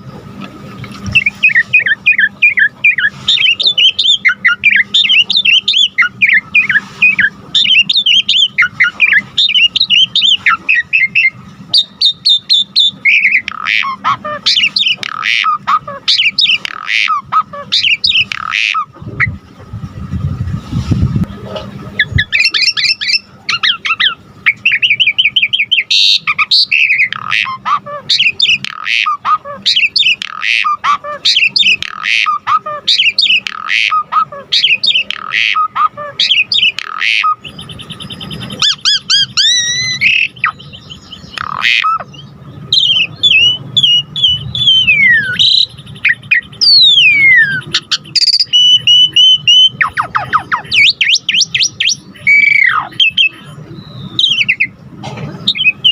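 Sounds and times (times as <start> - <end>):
starling singing: 1.0 - 19.7, 21.9 - 55.9.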